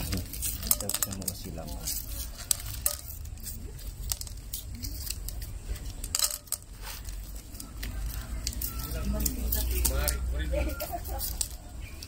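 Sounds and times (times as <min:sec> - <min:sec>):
wrappers rustling and tearing: 0:00.0 - 0:12.0.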